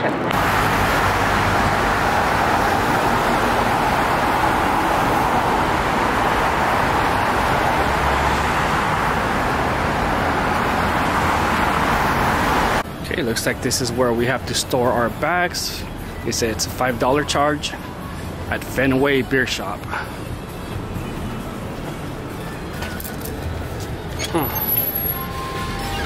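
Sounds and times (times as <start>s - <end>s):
steady vehicle rush: 0.0s - 26.0s.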